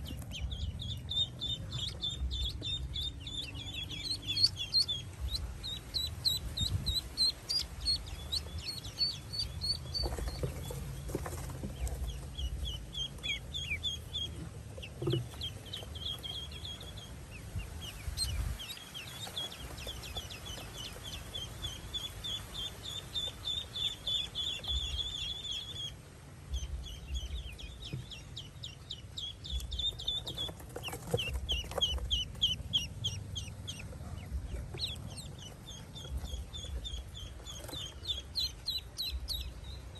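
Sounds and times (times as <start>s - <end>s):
ducklings peeping: 0.0s - 39.9s
low rumble: 0.0s - 39.9s.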